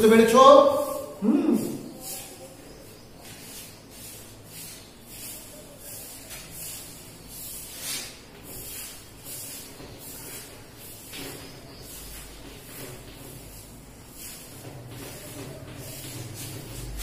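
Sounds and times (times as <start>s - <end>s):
chalk scratching on blackboard: 0.0s - 17.0s.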